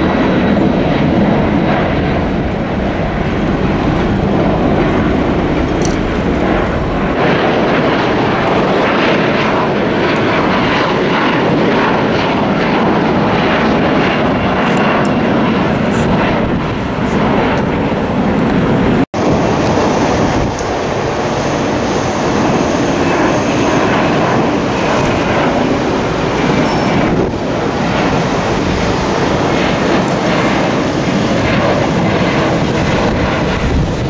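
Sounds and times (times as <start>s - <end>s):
jet airliner climbing overhead: 0.0s - 34.0s.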